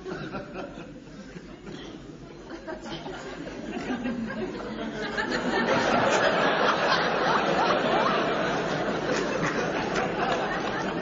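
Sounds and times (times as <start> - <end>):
crowd laughter: 0.0 - 1.8, 2.4 - 11.0.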